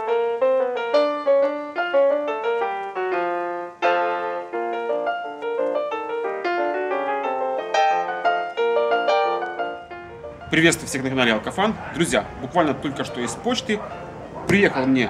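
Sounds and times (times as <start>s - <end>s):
ragtime piano music: 0.0s - 15.0s.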